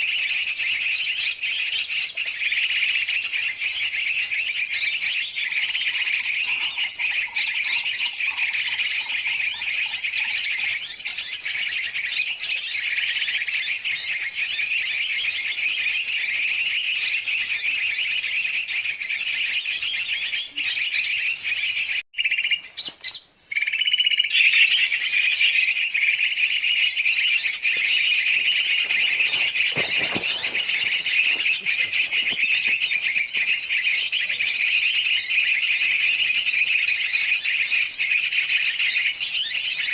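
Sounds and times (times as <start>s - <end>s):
chorus of birds chirping: 0.0s - 39.9s.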